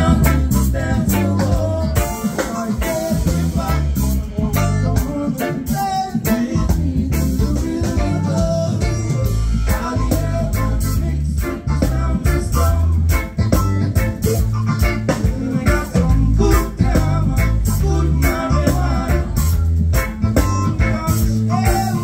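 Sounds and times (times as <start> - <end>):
live reggae band playing: 0.0 - 22.0.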